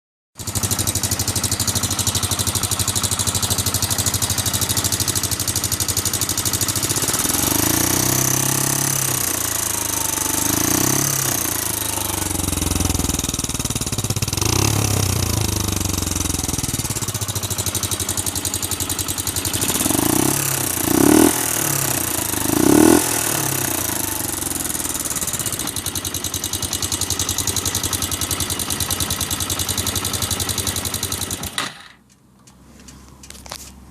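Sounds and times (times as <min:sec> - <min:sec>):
engine idling and revving: 0:00.4 - 0:33.9.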